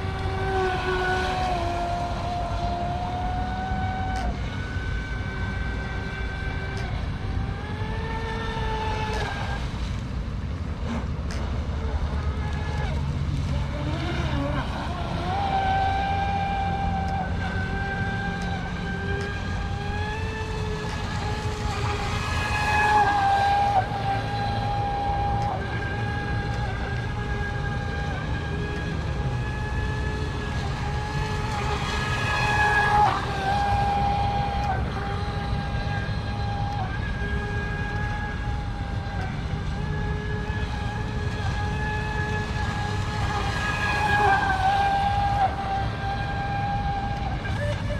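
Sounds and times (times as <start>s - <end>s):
electric motor whining: 0.0s - 47.9s.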